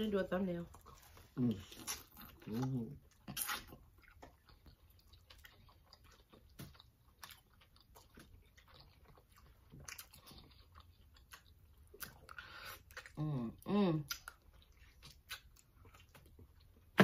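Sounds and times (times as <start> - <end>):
faint chewing: 0.5 - 17.0.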